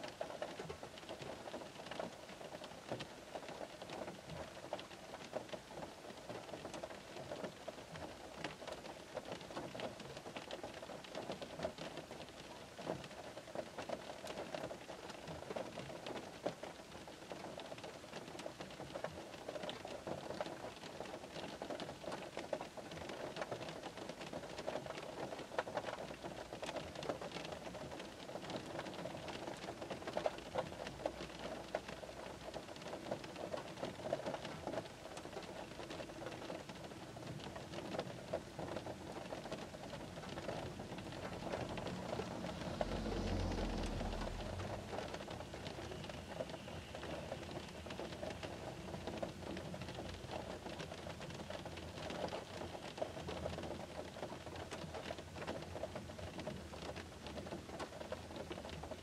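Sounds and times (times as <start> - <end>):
rain pattering on car roof: 0.0 - 59.0.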